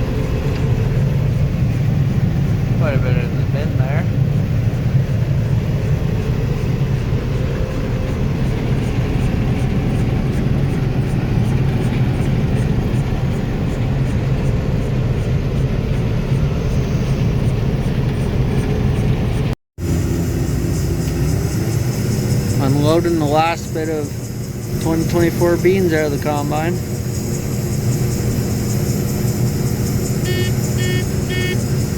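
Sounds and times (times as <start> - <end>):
combine harvester running: 0.0 - 31.9.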